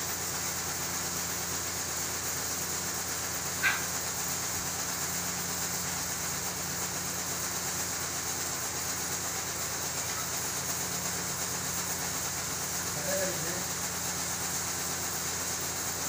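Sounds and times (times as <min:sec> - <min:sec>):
mechanical hum with hiss: 0:00.0 - 0:16.0.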